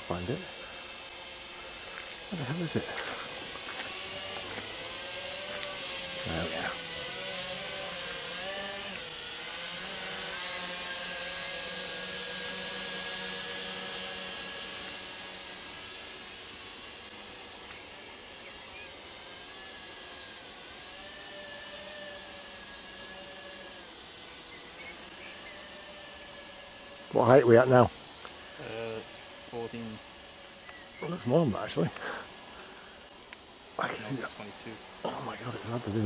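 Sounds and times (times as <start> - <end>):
drone propellers buzzing: 0.0 - 36.0.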